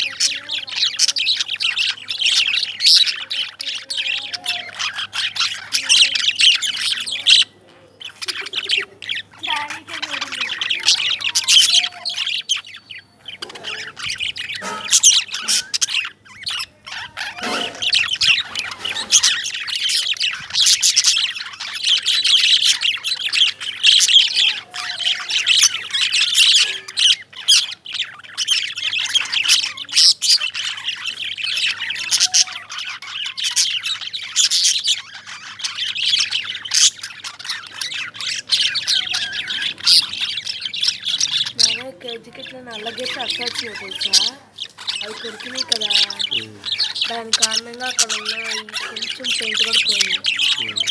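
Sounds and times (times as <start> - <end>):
lovebirds chirping and squawking: 0.0 - 50.9.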